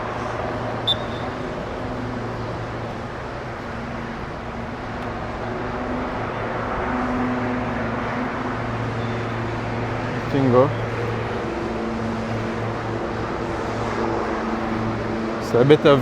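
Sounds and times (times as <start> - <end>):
urban traffic noise: 0.0 - 16.0.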